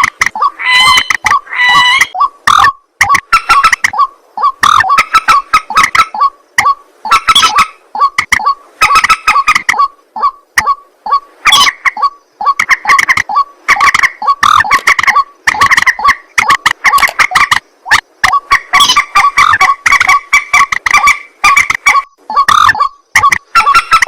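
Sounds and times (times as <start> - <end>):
waterhen calls: 0.0 - 24.0.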